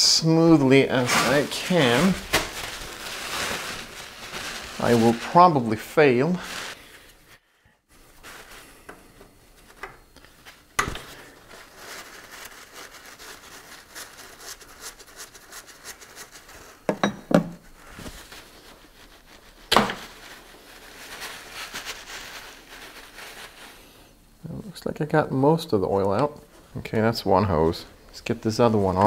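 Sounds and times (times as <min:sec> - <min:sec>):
paper towel crinkling: 0:00.1 - 0:16.9, 0:17.6 - 0:29.0.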